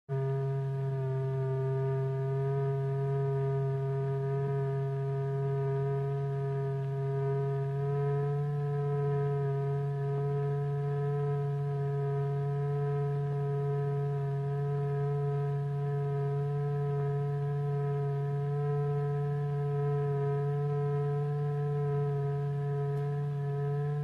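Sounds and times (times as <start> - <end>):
faint higher electronic tones: 0.1 - 24.0
low electronic tone: 0.1 - 24.0.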